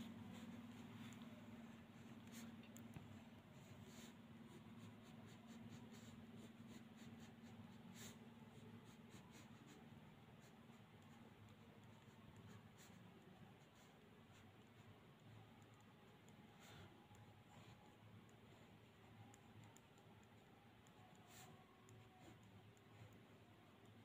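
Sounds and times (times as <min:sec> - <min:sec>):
pen scratching on paper: 0:00.0 - 0:23.4
low steady hum: 0:00.0 - 0:24.0.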